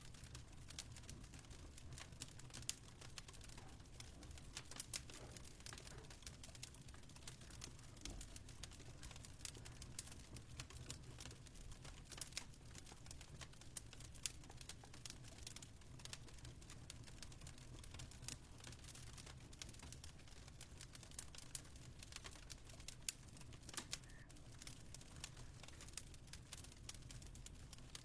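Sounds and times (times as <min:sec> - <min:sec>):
fireplace crackling: 0:00.0 - 0:28.0.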